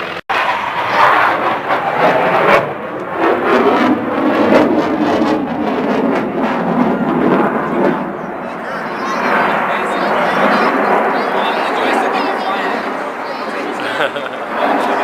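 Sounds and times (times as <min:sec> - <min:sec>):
aircraft roar: 0:00.0 - 0:15.0.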